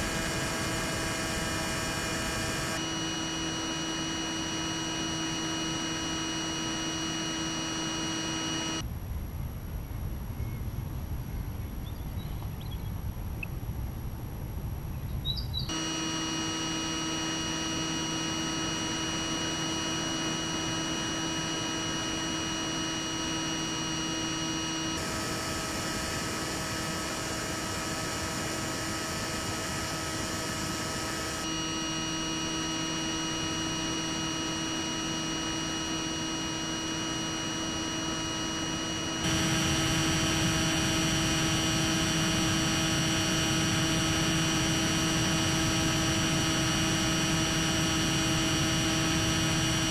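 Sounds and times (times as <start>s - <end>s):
electrical hum and buzz: 0.0s - 49.9s.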